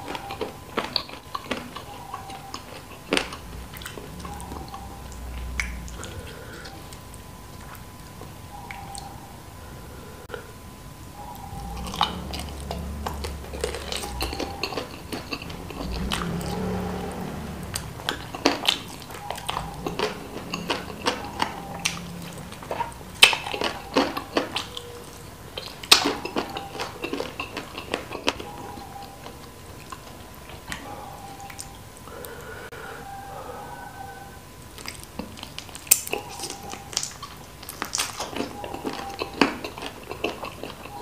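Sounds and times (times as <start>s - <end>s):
chewing and biting: 0.0s - 9.1s, 11.6s - 31.8s, 34.7s - 41.0s.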